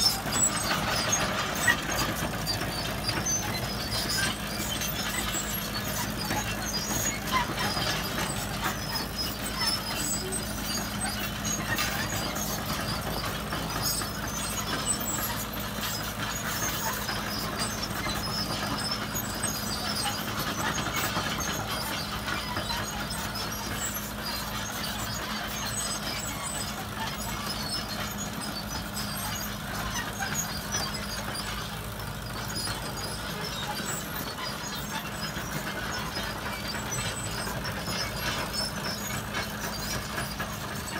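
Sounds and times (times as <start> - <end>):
excavator diesel engine running: 0.0 - 40.9
squeaks from track running gear: 0.0 - 40.9.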